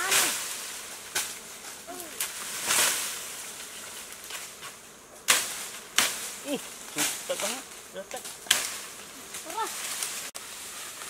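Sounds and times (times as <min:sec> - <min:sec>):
branch snapping: 0:00.0 - 0:10.4
bamboo leaves rustling: 0:00.0 - 0:11.0.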